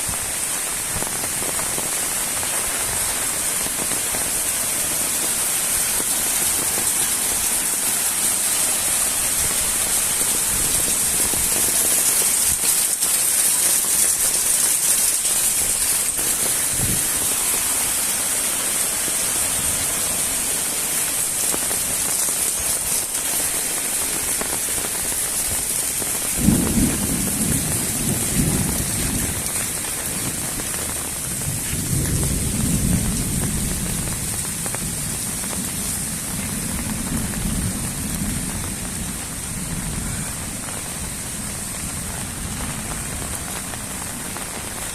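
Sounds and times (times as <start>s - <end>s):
heavy rain hiss: 0.0s - 44.9s.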